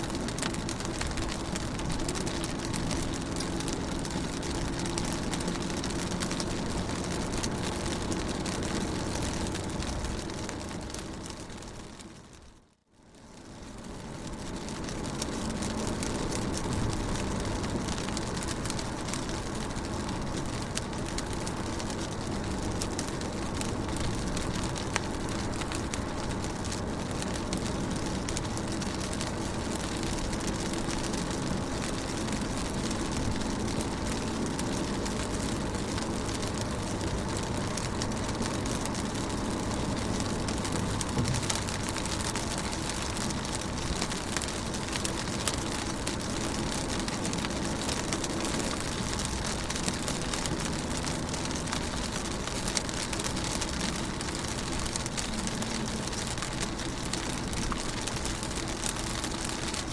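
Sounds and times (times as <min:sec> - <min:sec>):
rain pattering on car: 0:00.0 - 0:59.9.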